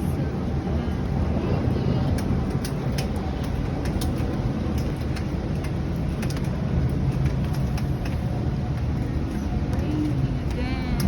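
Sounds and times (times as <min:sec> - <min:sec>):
strong wind rumbling: 0:00.0 - 0:11.0.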